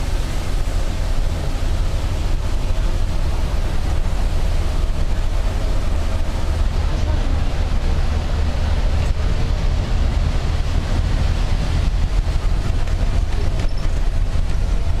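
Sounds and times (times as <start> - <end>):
bus engine rumble: 0.0 - 15.0
tyres on wet road: 0.0 - 15.0.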